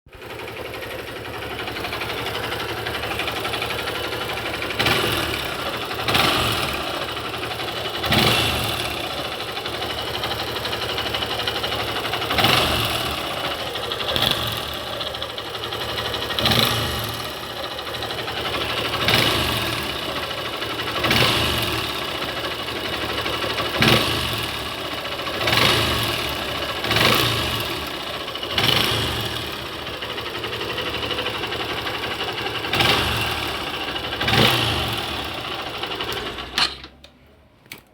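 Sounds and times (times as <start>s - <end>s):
motorcycle engine revving: 0.1s - 36.9s
strange engine noise: 0.1s - 37.0s.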